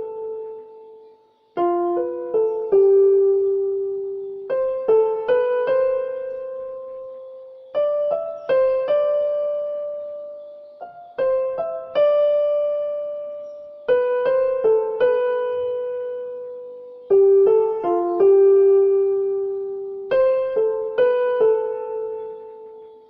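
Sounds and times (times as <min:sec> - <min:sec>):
gentle electric piano music: 0:00.0 - 0:23.0.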